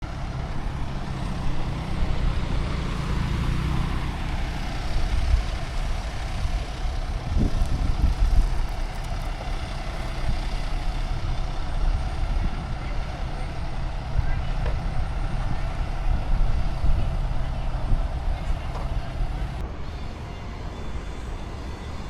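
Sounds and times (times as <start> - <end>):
large vehicle engine rumble: 0.0 - 22.0.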